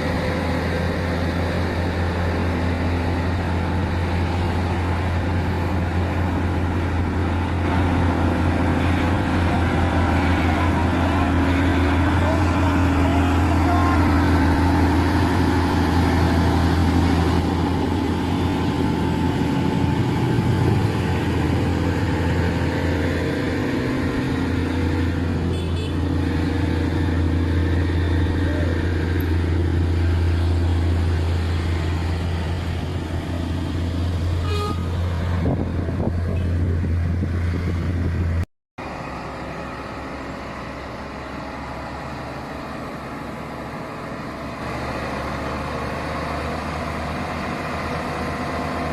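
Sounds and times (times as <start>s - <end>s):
heavy truck engine humming: 0.0s - 48.9s
road traffic noise: 0.0s - 48.9s.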